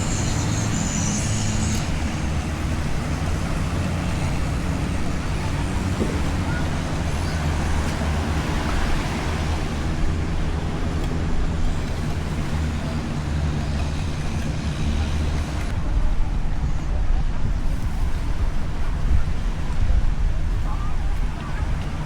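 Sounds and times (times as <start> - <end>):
engine humming: 0.0 - 22.0
outdoor traffic noise: 0.0 - 22.0.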